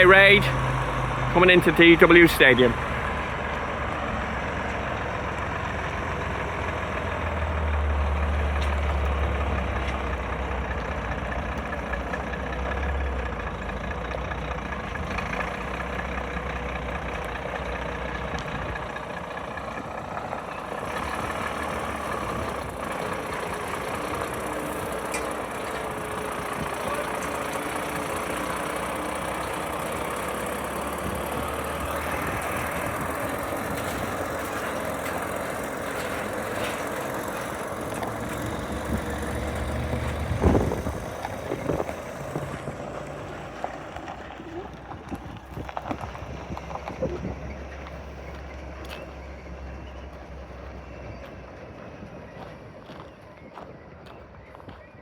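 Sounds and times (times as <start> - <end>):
heavy lorry engine rumbling: 0.0 - 55.0.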